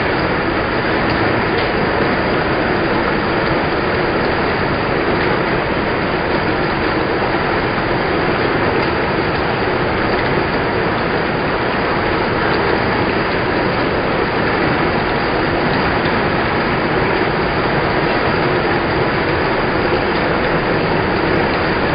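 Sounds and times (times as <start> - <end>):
heavy rain falling: 0.0 - 21.9.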